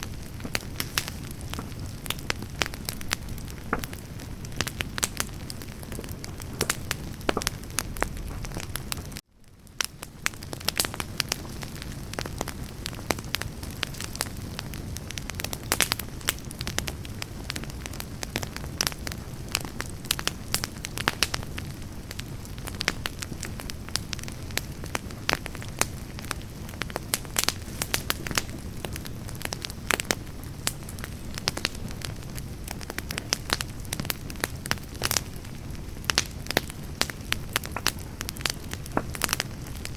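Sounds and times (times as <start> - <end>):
campfire logs crackling and popping: 0.0 - 39.9
low rumble of flame: 0.0 - 39.9.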